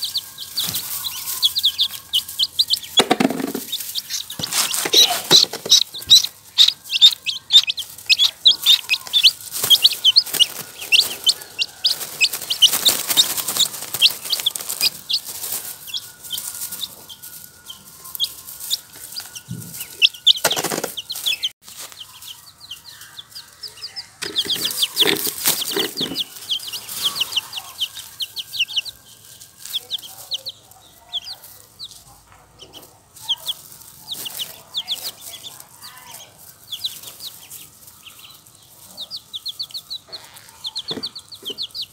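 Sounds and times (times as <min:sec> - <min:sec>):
rustling: 0:00.0 - 0:39.0
chicks peeping: 0:00.0 - 0:41.9.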